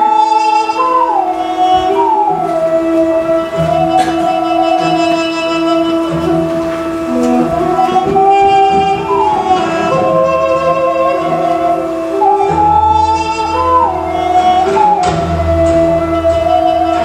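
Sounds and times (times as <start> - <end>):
flute-like pipe melody: 0.0 - 17.0
pulsing low accompaniment: 0.0 - 17.0
steady drone: 0.0 - 17.0.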